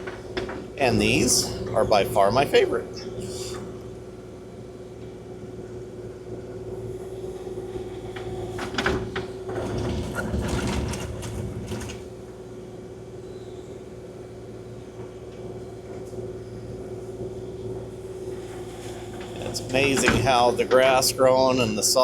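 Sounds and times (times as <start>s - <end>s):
diesel engine running: 0.0s - 22.0s
excavator hydraulic whine: 0.0s - 22.0s.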